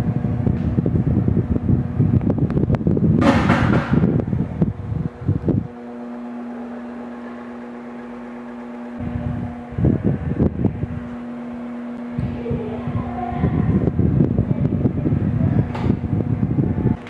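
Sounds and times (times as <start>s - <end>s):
fan motor hum: 0.0s - 17.0s
low rumble on microphone: 0.0s - 17.0s.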